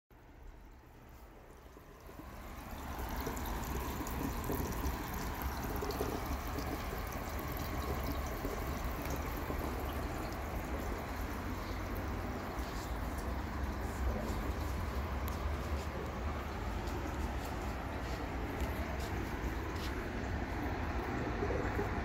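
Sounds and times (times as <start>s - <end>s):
aquarium water trickling: 0.1s - 22.0s.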